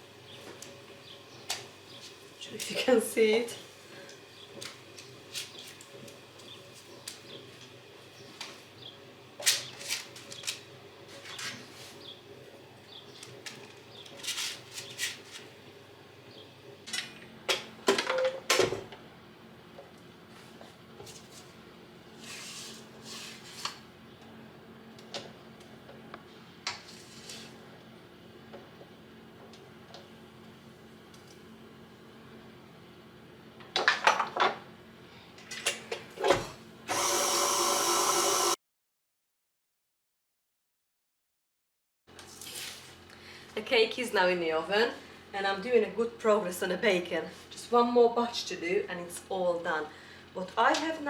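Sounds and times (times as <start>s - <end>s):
low appliance hum: 0.0s - 38.6s, 42.1s - 51.0s.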